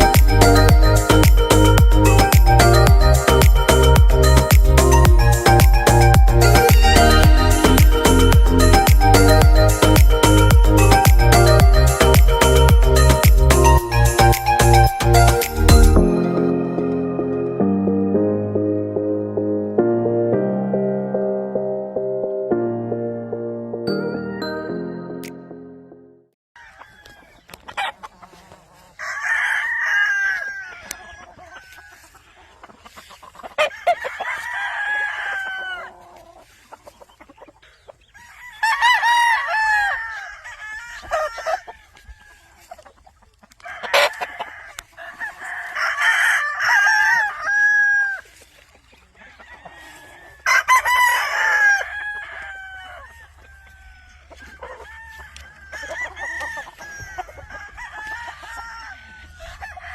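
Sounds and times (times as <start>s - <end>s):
roosters crowing: 0.0s - 16.4s, 26.6s - 59.9s
chickens clucking: 0.0s - 17.1s, 26.6s - 59.9s.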